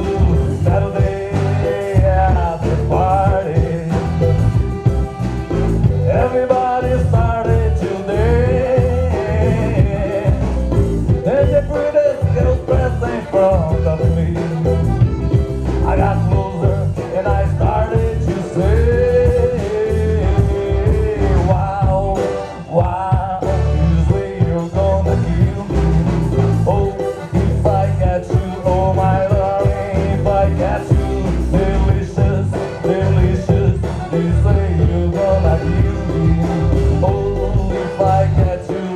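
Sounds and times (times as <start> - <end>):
country song with vocals: 0.0 - 38.9.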